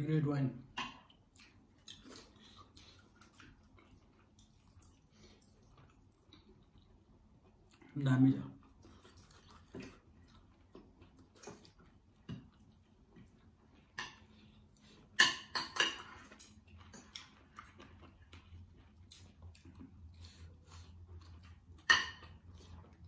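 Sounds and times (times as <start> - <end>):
people chewing: 0.8 - 23.0.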